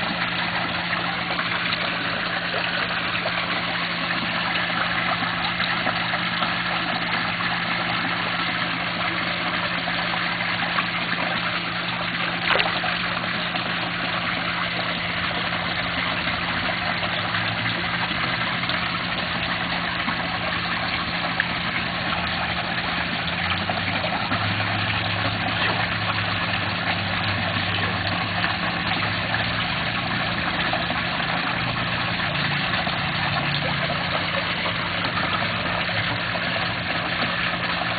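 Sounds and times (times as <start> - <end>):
low machine hum: 0.0 - 37.9.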